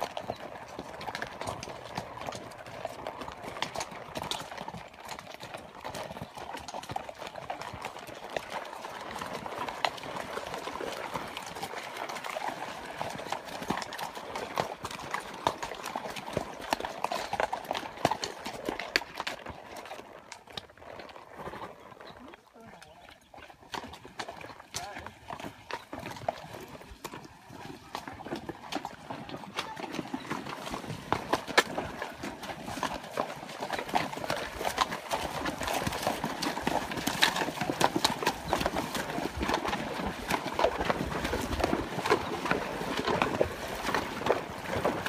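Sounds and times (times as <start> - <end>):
horse hooves on stones: 0.0 - 45.0.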